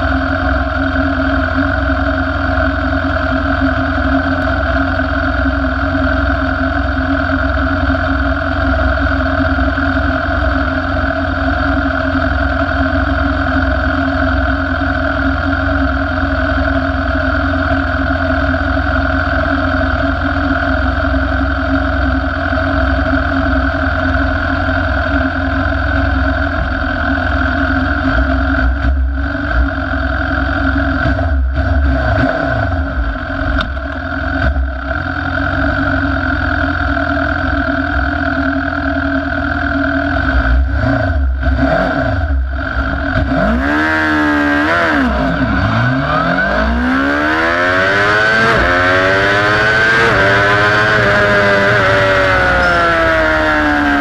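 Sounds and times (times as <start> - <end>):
motorcycle engine idling: 0.0 - 32.0, 32.7 - 54.0.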